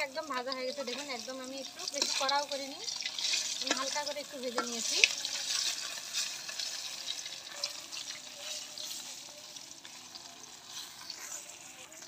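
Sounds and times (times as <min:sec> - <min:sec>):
hot oil sizzling: 0:00.0 - 0:12.0
metal spatula scraping a pan: 0:00.6 - 0:12.0.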